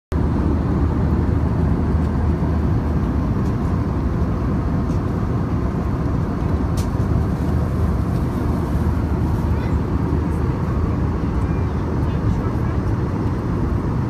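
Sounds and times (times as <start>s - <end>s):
jet engine cabin rumble: 0.1s - 14.0s.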